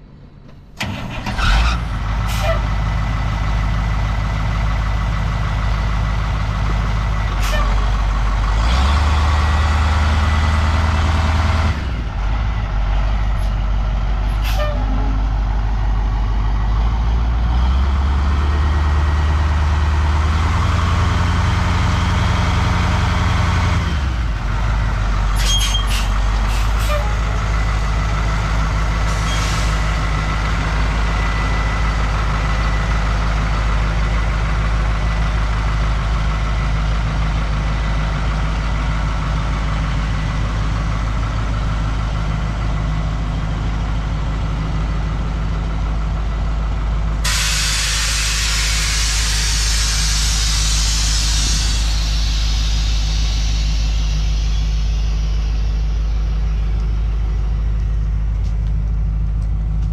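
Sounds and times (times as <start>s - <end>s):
truck engine running and revving: 0.0s - 59.9s.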